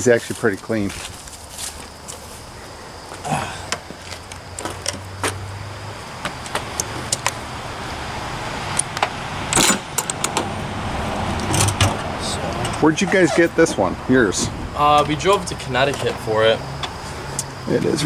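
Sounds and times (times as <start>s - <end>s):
steady low hum: 0.8s - 18.0s.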